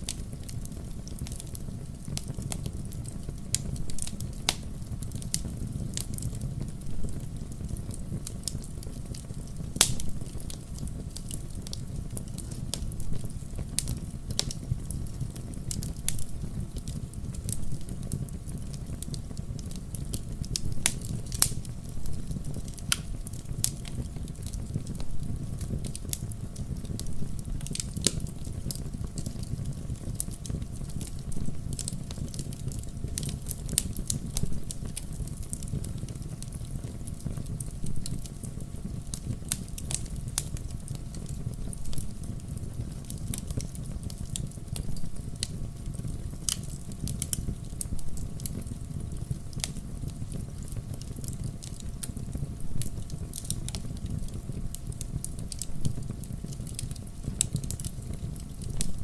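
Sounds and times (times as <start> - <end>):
campfire crackling and popping: 0.0 - 59.0
flames rumbling: 0.0 - 59.0.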